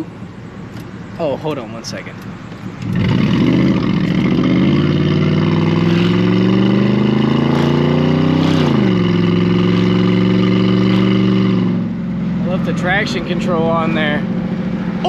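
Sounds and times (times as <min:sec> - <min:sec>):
car engine revving: 0:02.5 - 0:15.0.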